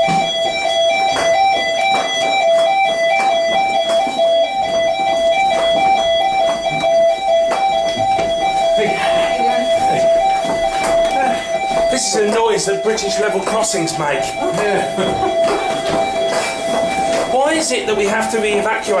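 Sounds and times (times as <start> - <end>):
fire alarm two-tone warble: 0.0 - 19.0.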